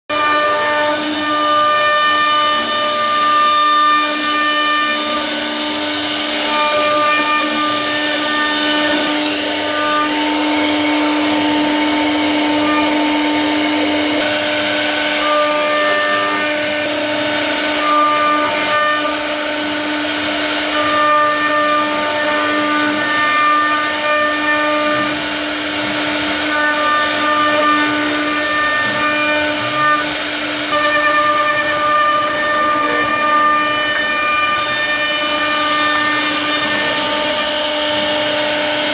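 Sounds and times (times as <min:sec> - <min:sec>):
router spindle whining: 0:00.1 - 0:38.9
hiss of cutting wood: 0:00.2 - 0:38.9.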